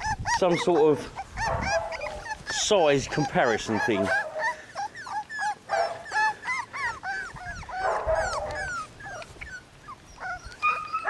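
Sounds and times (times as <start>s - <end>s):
puppies yipping and whimpering: 0.0s - 11.0s.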